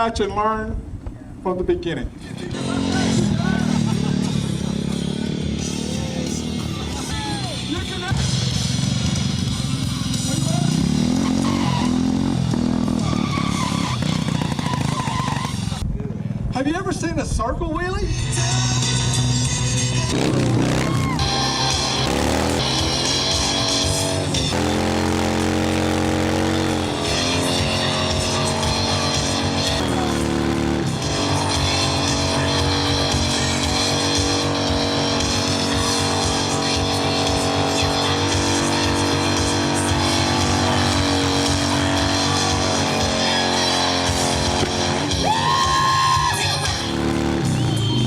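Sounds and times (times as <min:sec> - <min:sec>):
motorcycle engine revving: 0:02.2 - 0:16.5, 0:18.7 - 0:48.0
rock music: 0:02.3 - 0:15.8, 0:18.1 - 0:48.0.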